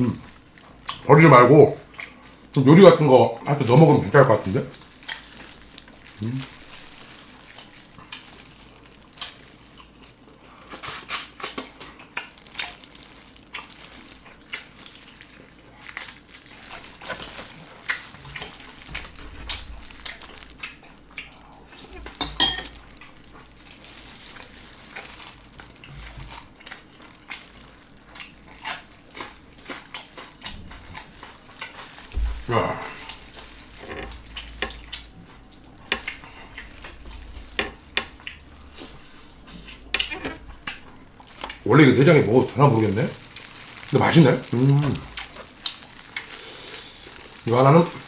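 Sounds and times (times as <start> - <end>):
chewing raw shrimp with shells: 0.0 - 48.0.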